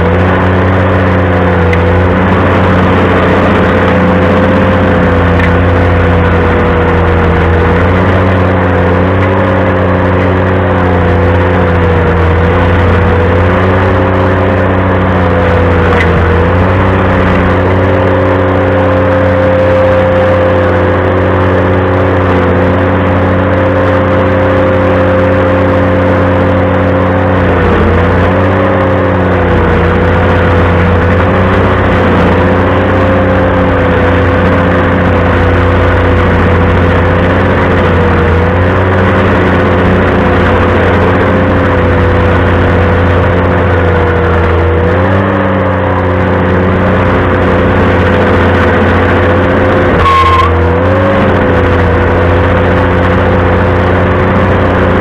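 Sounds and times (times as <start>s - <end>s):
tractor engine running stump grinder: 0.0s - 55.0s.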